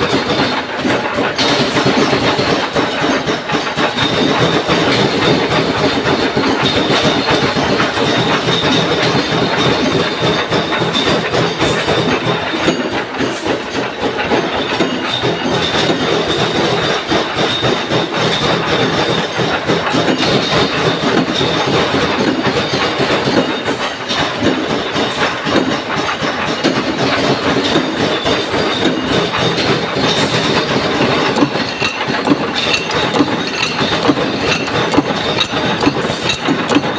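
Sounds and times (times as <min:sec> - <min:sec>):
punch press metallic clatter: 0:00.0 - 0:36.9.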